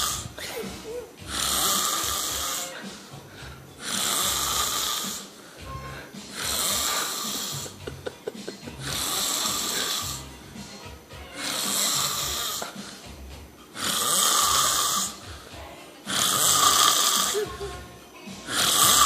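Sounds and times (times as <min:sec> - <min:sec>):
man snoring: 0:00.0 - 0:19.0.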